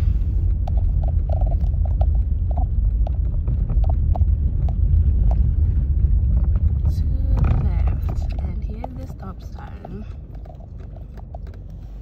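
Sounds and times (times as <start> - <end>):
low rumble of car driving: 0.0 - 12.0
car turn signal ticking: 0.4 - 12.0.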